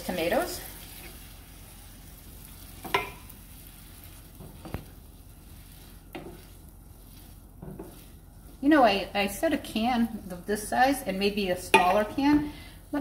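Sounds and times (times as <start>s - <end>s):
vegetables sizzling in a skillet: 0.0s - 13.0s
wooden spoon stirring: 0.0s - 13.0s.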